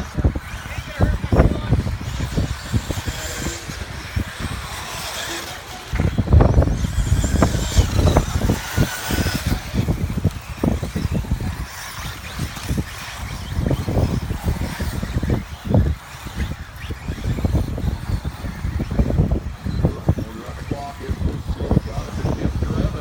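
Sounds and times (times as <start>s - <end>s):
rc car motor whine: 0.0s - 23.0s.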